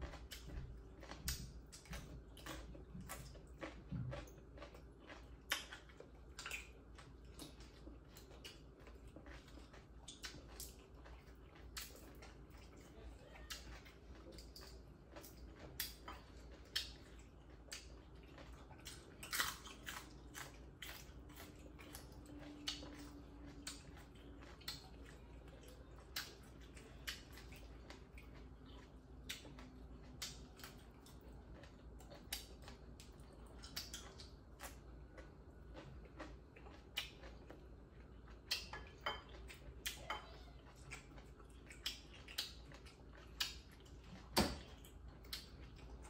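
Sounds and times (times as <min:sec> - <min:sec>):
faint low hum: 0:00.0 - 0:46.0
people chewing food: 0:00.0 - 0:46.0.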